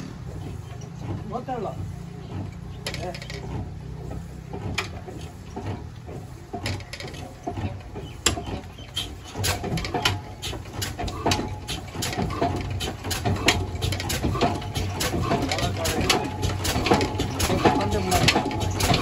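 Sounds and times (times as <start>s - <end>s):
old diesel engine pulsing: 0.0s - 19.0s
sharp knocks and clanks: 0.0s - 19.0s.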